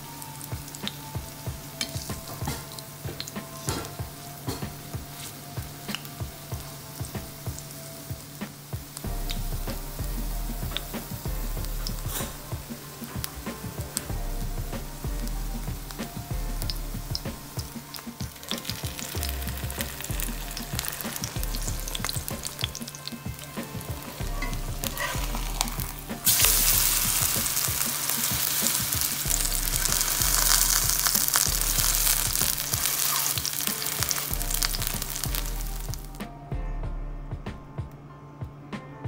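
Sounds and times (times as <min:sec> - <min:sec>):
pancake sizzling in oil: 0:00.0 - 0:36.2.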